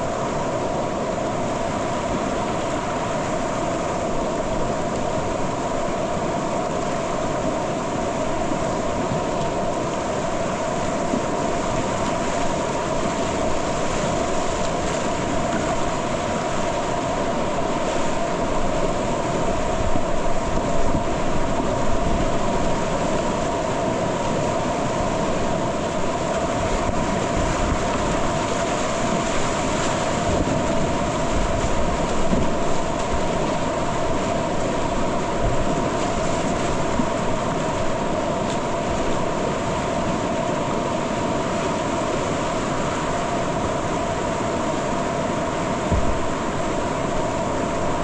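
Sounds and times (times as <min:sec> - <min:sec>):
whitewater rapids rushing: 0:00.0 - 0:48.0.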